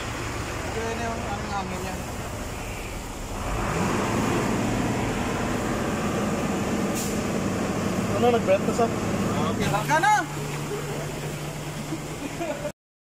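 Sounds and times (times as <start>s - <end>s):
diesel truck engine running: 0.0s - 12.7s.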